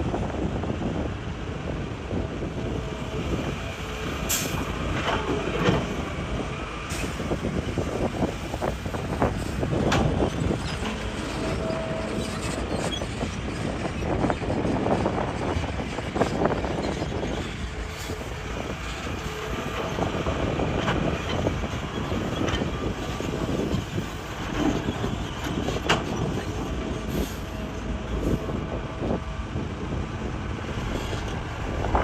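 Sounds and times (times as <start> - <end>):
excavator engine running: 0.2 - 32.0.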